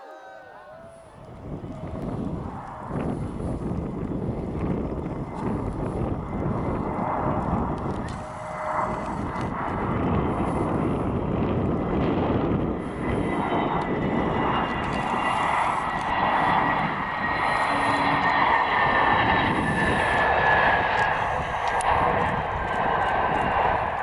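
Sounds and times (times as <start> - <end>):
airliner landing: 0.0 - 24.0.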